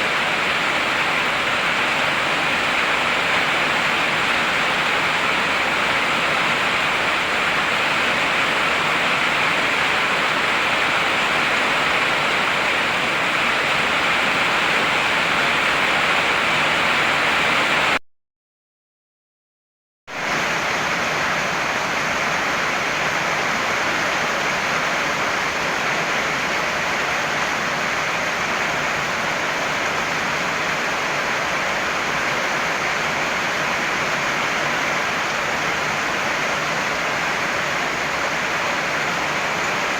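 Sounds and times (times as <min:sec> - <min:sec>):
heavy rain hissing: 0:00.0 - 0:18.0, 0:20.1 - 0:39.9.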